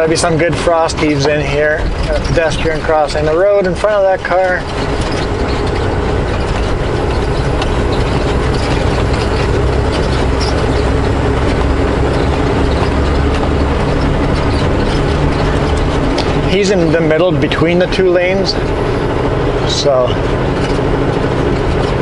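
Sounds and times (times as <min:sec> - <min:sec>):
road noise: 0:00.0 - 0:22.0
truck diesel engine running: 0:00.0 - 0:22.0.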